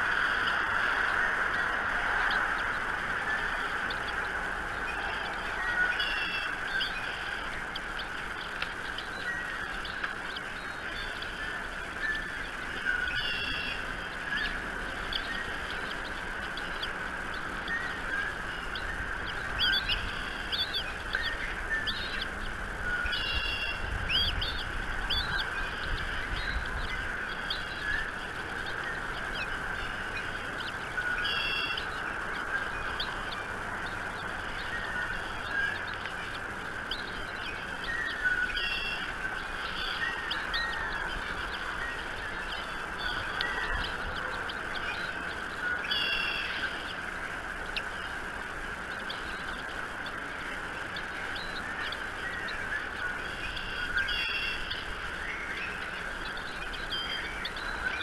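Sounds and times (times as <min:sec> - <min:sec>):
birds chirping: 0:00.0 - 0:58.0
steady background noise: 0:00.0 - 0:58.0.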